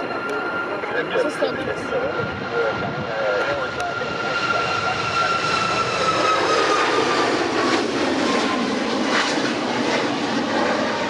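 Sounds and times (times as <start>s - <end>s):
airliner engines passing: 0.0s - 11.0s.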